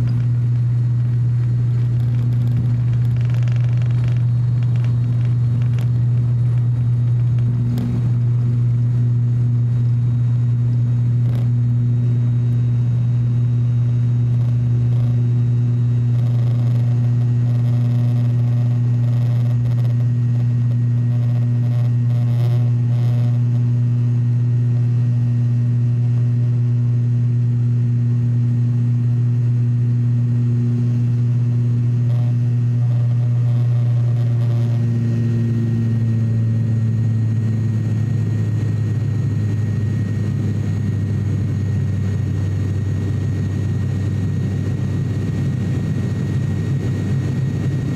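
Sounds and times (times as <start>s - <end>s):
propeller drone: 0.0s - 47.9s.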